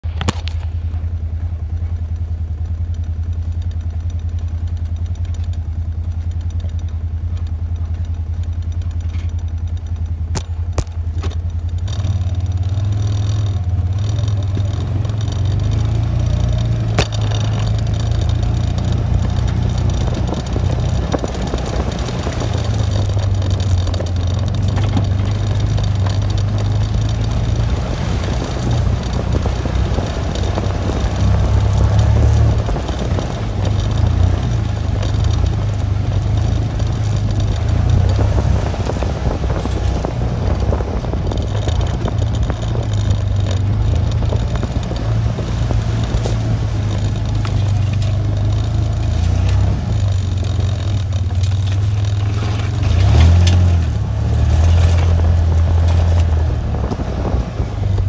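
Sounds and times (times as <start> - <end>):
small vehicle engine running: 0.0 - 58.0
vehicle rattling over rough ground: 0.0 - 58.0.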